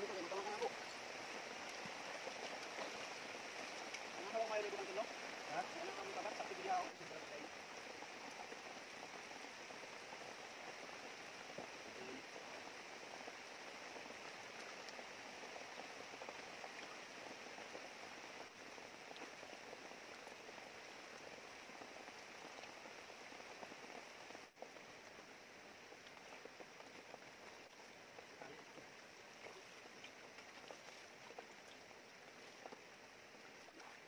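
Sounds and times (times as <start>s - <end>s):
river water flowing over rocks: 0.0s - 34.0s.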